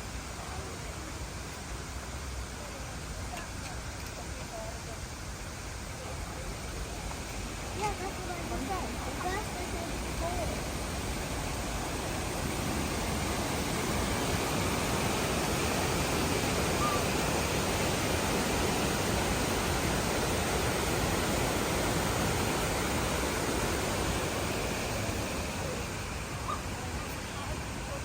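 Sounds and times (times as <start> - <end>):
waterfall rushing: 4.8 - 28.0.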